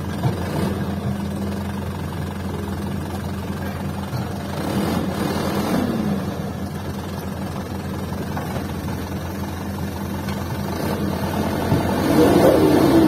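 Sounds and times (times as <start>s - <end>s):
dump truck diesel engine: 0.0s - 13.0s
excavator engine running: 0.0s - 13.0s.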